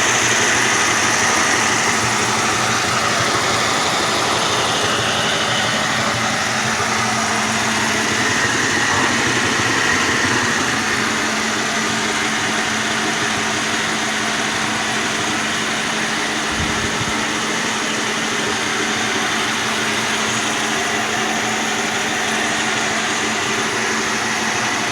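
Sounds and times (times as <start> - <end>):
model train motor whirring: 0.0 - 24.9
wheels rolling on track: 0.0 - 24.9.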